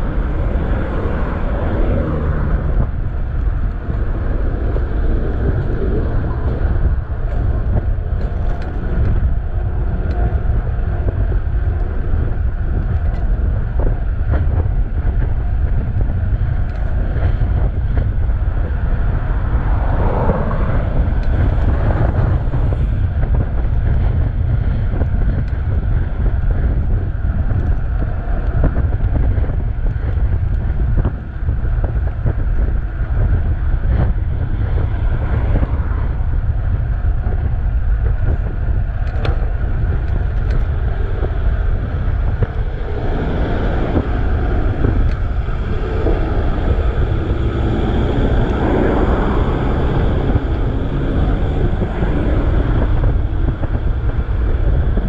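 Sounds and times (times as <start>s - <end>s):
road traffic passing: 0.0s - 55.0s
wind buffeting microphone: 0.0s - 55.0s.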